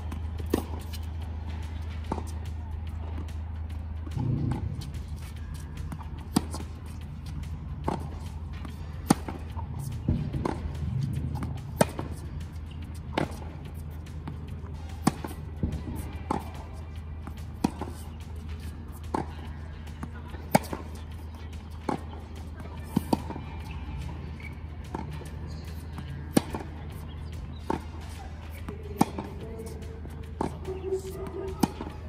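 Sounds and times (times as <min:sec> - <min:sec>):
steady low rumble: 0:00.0 - 0:31.5
racquets striking tennis ball: 0:00.0 - 0:32.0
tennis ball bouncing: 0:00.0 - 0:32.0.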